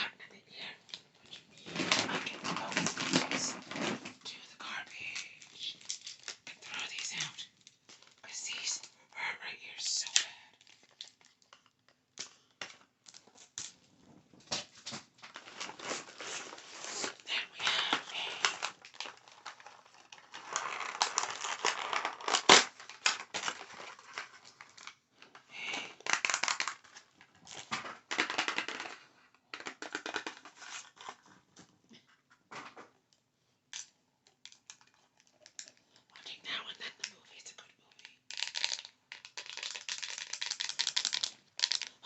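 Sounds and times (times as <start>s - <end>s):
wrapping crinkling and rustling: 0.1s - 31.9s, 33.0s - 42.0s.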